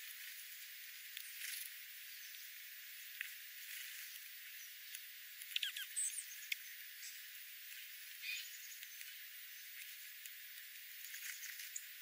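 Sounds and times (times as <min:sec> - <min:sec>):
small birds chirping: 0:01.1 - 0:12.0.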